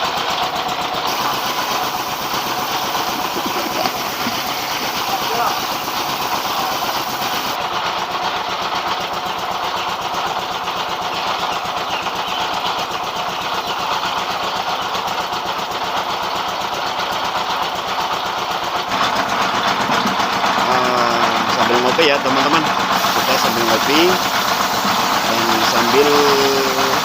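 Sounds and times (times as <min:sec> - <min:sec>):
diesel engine running rice mill: 0:00.0 - 0:27.0.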